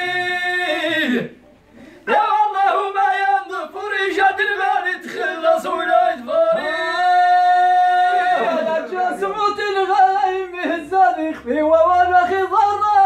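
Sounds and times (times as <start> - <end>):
men singing a chant: 0.0 - 1.4, 2.1 - 13.0.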